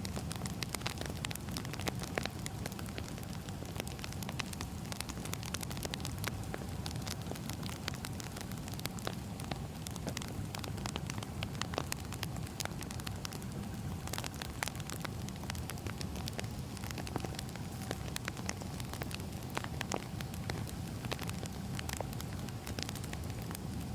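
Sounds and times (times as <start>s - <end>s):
low rumble of burning logs: 0.0s - 23.9s
wood fire crackling: 0.0s - 23.9s.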